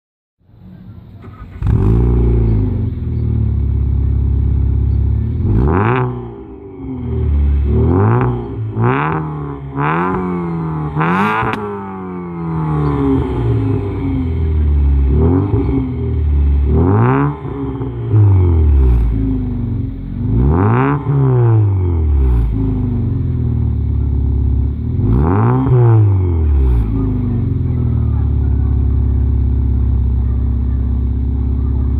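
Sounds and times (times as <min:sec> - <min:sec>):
car engine revving: 0:00.7 - 0:31.9.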